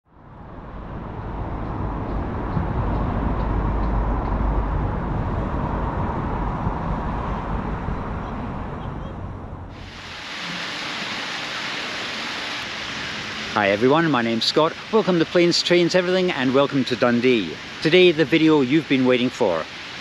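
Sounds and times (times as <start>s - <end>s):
outdoor background rumble and hiss: 0.1s - 20.0s.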